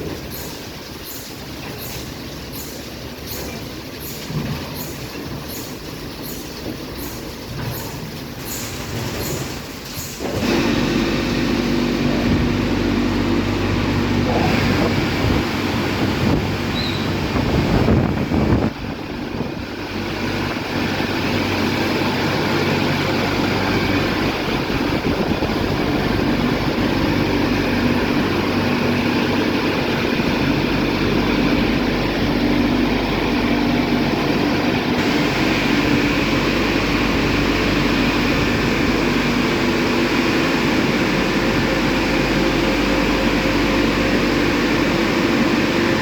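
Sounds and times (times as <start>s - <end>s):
car wash machine whirring: 0.0s - 46.0s.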